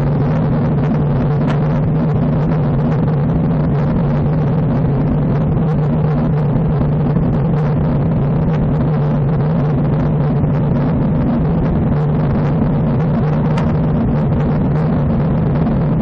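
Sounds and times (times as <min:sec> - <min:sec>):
low rumble: 0:00.0 - 0:16.0
wind rushing over microphone: 0:00.0 - 0:16.0.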